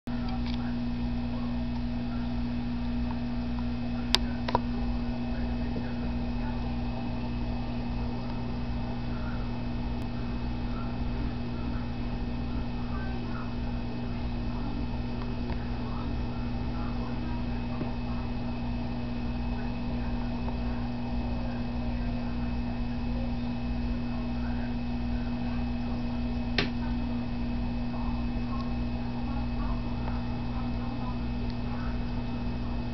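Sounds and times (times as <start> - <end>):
aquarium equipment humming: 0.1 - 32.9
faint high whine: 0.1 - 32.9.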